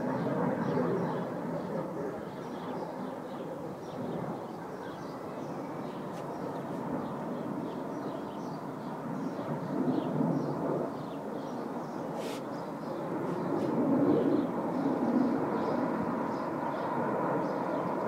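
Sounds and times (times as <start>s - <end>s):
distant jet rumble: 0.0s - 18.0s
small birds chirping: 0.0s - 18.0s.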